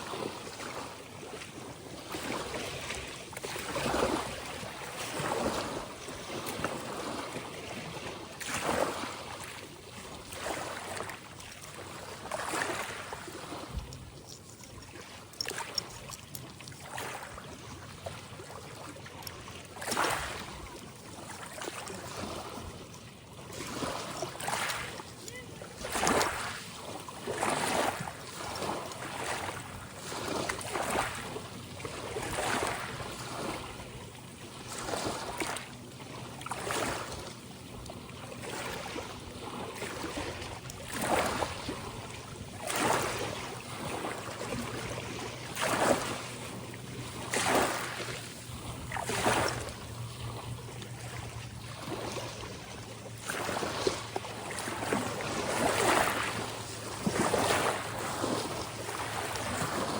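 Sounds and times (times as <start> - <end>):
small ocean waves lapping: 0.0 - 59.9.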